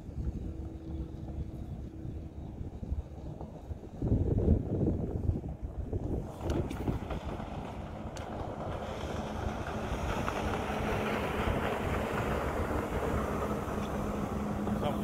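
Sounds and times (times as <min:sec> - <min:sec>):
jet ski engine drone: 0:00.0 - 0:15.0
wind buffeting microphone: 0:00.0 - 0:15.0.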